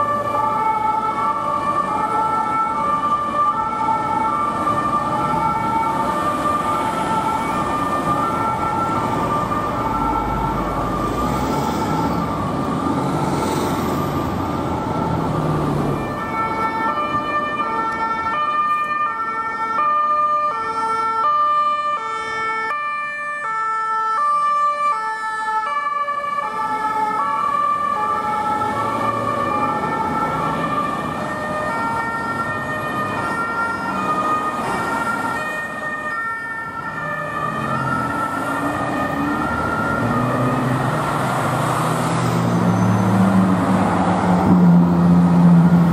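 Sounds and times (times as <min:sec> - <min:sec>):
ambulance two-tone siren: 0:00.0 - 0:45.9
city traffic: 0:00.0 - 0:45.9.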